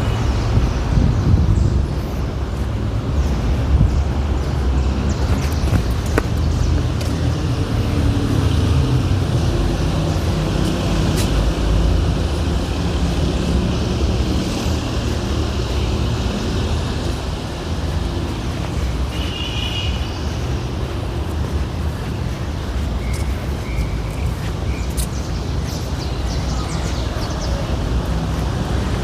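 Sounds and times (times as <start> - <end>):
traffic engine rumble: 0.0 - 29.0.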